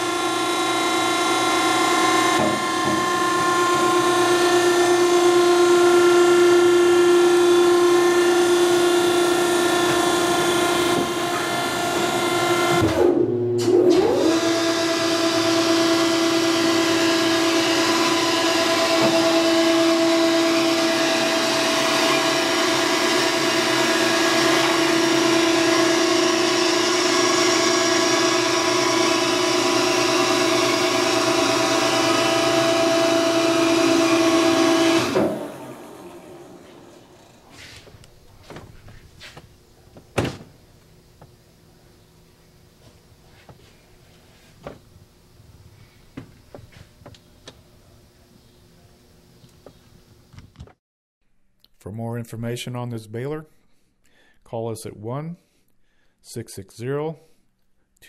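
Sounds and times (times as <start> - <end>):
hydraulic power unit whining: 0.0 - 50.7.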